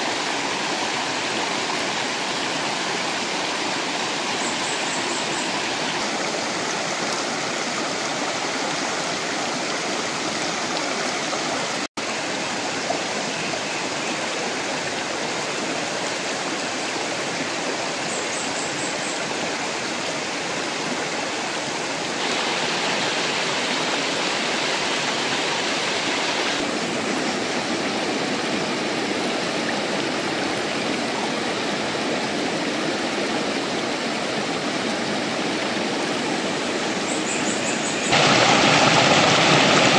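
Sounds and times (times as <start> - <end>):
river rushing over rocks: 0.0 - 12.9, 19.6 - 39.9.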